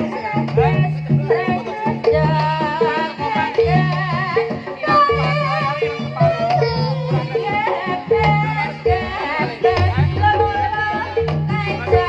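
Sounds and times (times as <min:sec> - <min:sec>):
drums: 0:00.0 - 0:12.0.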